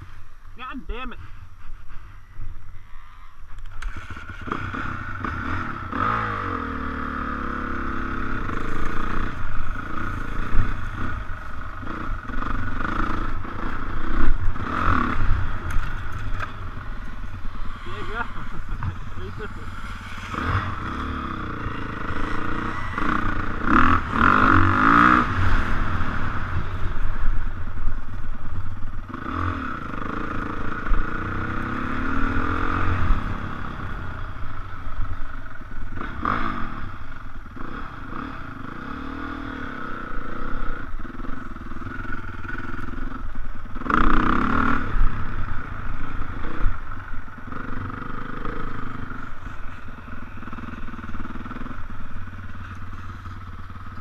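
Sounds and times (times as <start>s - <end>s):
dirt bike engine revving: 1.9s - 27.5s, 29.0s - 54.0s.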